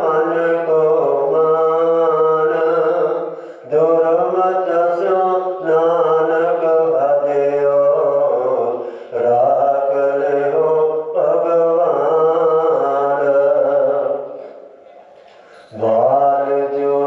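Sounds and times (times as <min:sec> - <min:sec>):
man chanting: 0:00.0 - 0:14.8, 0:15.4 - 0:17.0.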